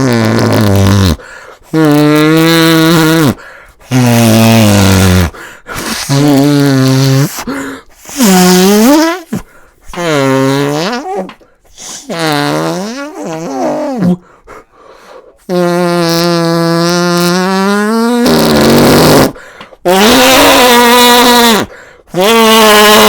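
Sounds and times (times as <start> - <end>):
loud fart sounds: 0.0 - 14.2, 15.4 - 23.0.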